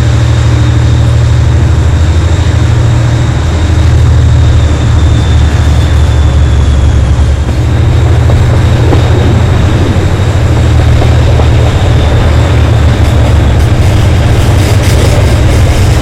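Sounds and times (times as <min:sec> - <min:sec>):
diesel locomotive engine throbbing: 0:00.0 - 0:16.0
rail joint clicks: 0:00.0 - 0:16.0.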